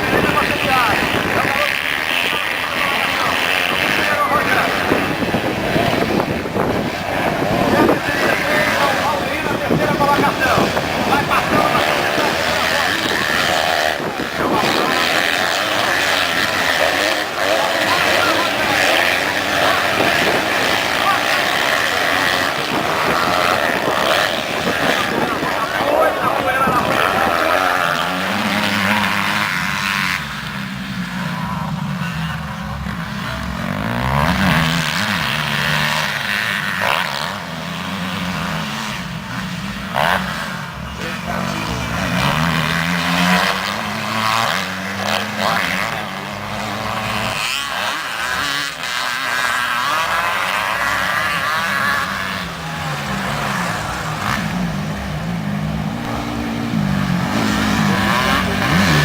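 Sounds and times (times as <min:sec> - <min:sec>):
motocross engines revving: 0:00.0 - 0:59.0.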